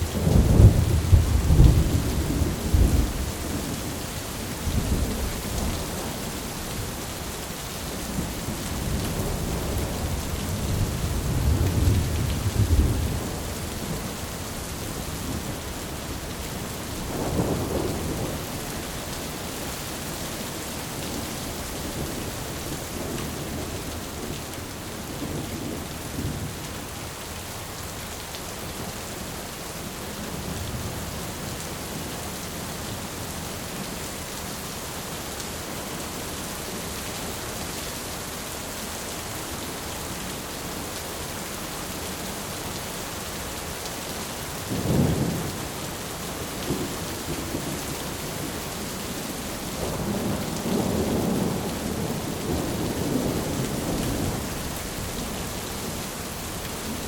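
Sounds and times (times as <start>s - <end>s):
rain hiss: 0.0s - 57.0s.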